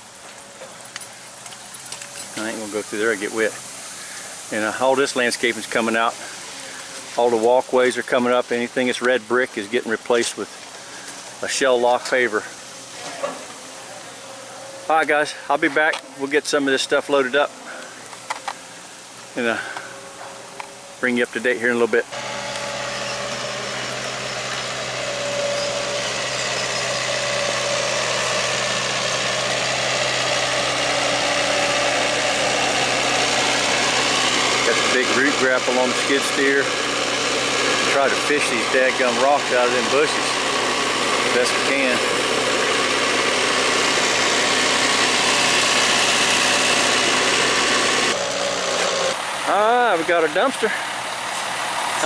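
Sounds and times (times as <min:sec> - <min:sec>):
skid steer engine running: 0:00.0 - 0:21.0, 0:21.6 - 0:52.0.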